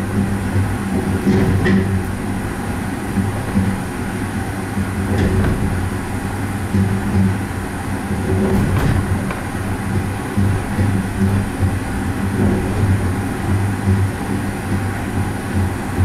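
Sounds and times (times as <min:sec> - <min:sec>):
gondola rumbling with low hum: 0:00.0 - 0:16.0.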